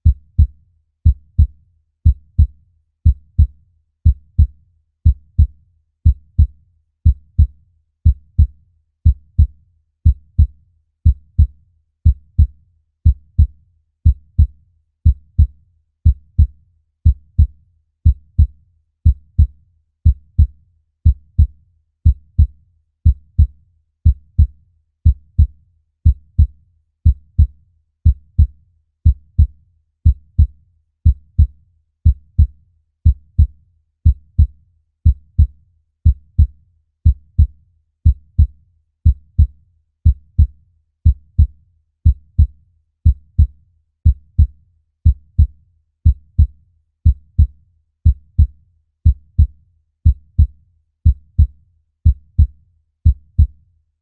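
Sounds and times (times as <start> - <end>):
human heartbeat: 0.0 - 53.6.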